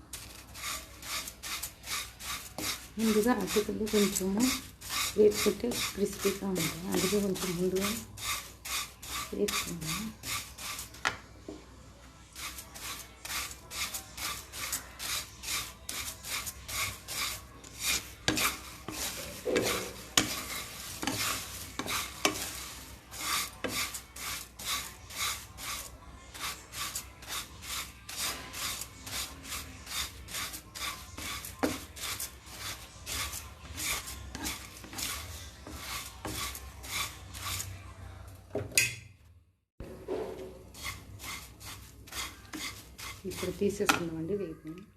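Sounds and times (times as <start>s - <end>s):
spatula scraping in a pan: 0.0s - 11.2s, 12.3s - 38.9s, 39.8s - 44.4s.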